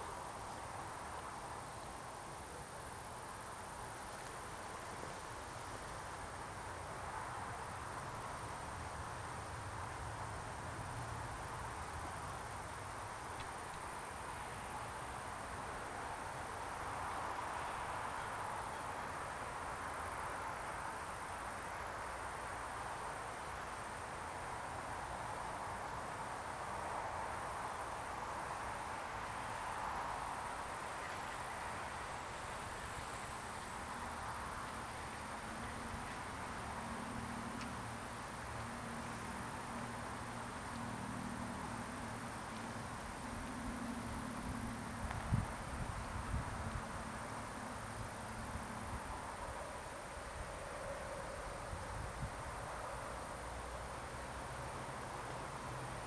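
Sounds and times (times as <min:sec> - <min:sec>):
crickets chirping: 0:00.0 - 0:56.0
low background hiss: 0:00.0 - 0:56.0.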